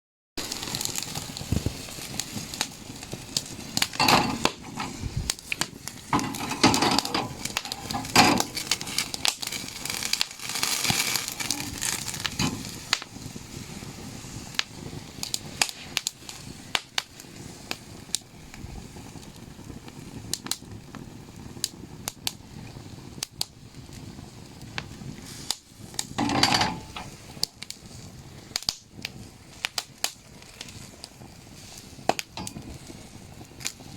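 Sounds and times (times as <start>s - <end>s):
campfire crackling and popping: 0.4s - 33.9s.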